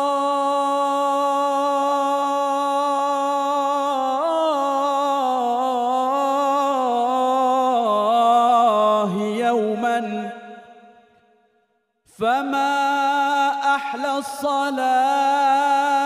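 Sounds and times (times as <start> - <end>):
man chanting unaccompanied: 0.0 - 10.8, 12.1 - 16.0.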